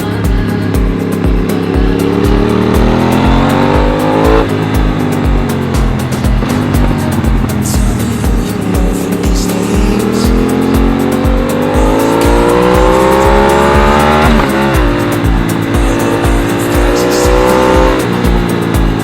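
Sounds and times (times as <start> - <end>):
motorcycle engine accelerating: 0.0 - 19.0
thumping music beat: 0.0 - 19.0.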